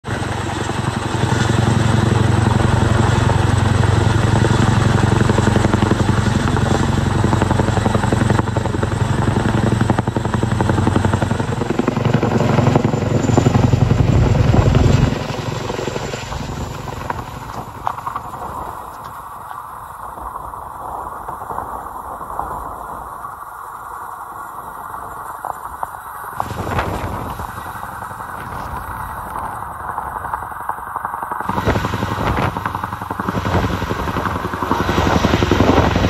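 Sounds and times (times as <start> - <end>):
helicopter rotor chopping: 0.0 - 36.0.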